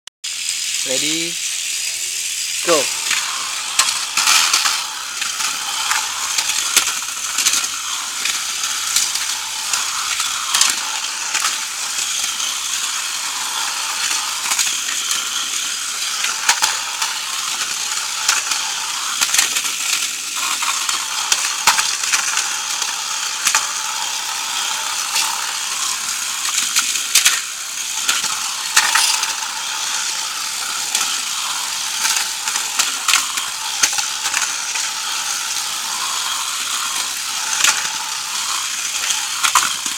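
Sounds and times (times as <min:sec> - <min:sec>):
toy car motors whirring: 0:00.3 - 0:39.9
plastic cars clashing: 0:02.7 - 0:39.9.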